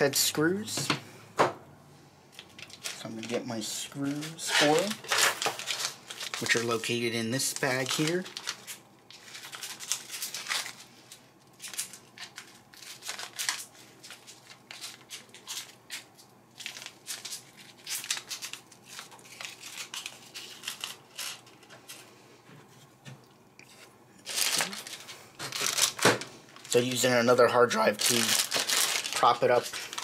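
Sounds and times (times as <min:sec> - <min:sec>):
plastic bag crinkling: 0:02.4 - 0:22.0, 0:23.7 - 0:30.0.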